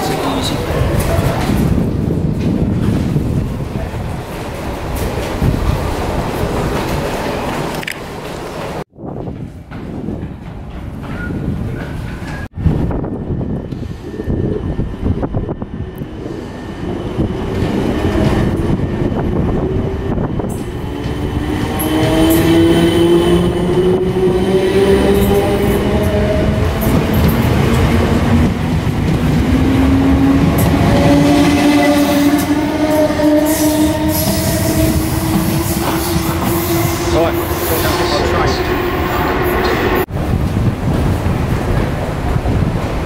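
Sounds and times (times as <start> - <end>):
train running rumble: 0.0 - 43.0.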